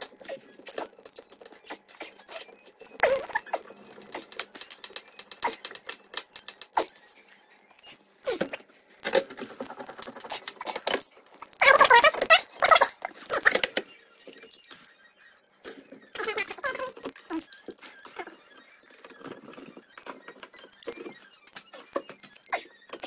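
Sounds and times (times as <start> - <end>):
parts clicking tapping and scraping: 0.0 - 23.0.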